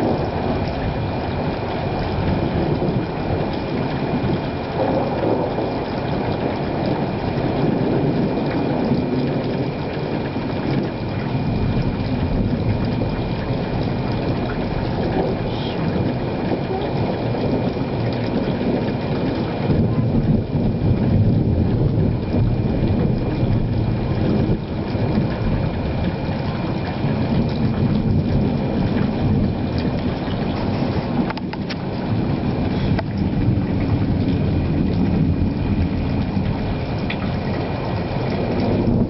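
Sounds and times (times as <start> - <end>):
rain: 0.0 - 39.0
thunder rolling: 0.0 - 39.0
wind: 0.0 - 39.0.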